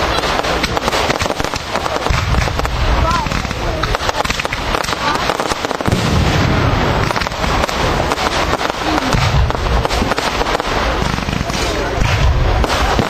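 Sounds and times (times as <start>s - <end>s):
deep firework booms: 0.0s - 13.0s
fireworks crackling and popping: 0.0s - 13.0s.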